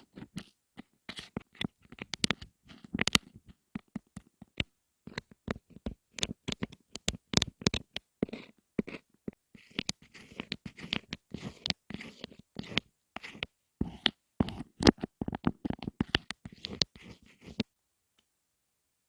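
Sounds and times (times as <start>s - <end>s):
scratchy rustles: 0.0s - 9.0s, 9.6s - 17.7s.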